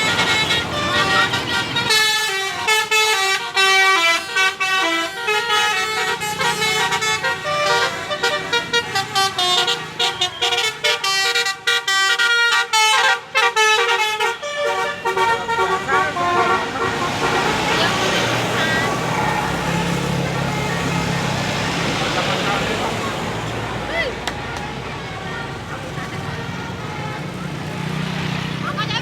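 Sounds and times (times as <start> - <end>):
bus musical horn playing a tune: 0.0 - 21.8, 25.3 - 28.1.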